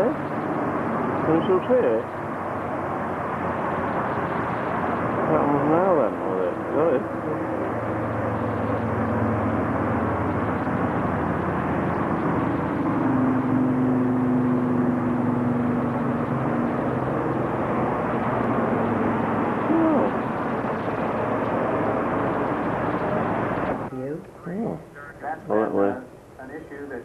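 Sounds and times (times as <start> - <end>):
low drone: 0.0 - 23.9
outdoor rumble and hiss: 0.0 - 27.0.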